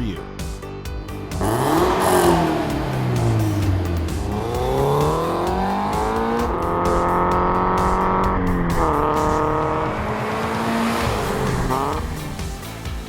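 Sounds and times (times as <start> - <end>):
background music: 0.0 - 13.0
car exhaust note revving: 1.2 - 12.8.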